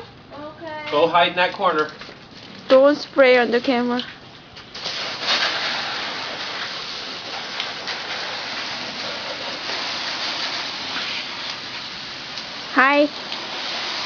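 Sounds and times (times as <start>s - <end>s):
hose water spraying on truck: 0.9s - 14.0s.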